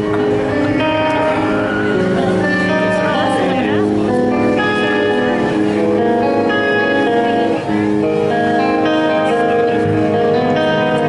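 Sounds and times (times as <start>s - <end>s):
clean electric guitar arpeggios: 0.0s - 11.0s.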